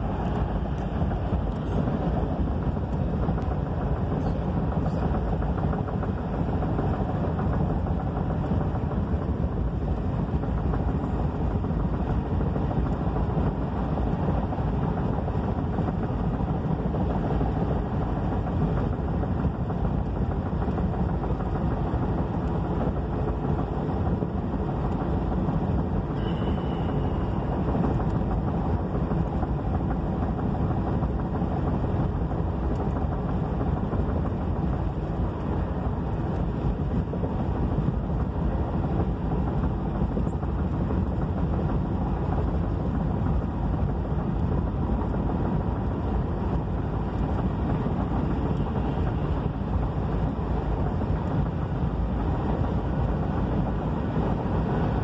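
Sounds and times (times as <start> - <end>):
car driving on freeway: 0.0 - 55.0.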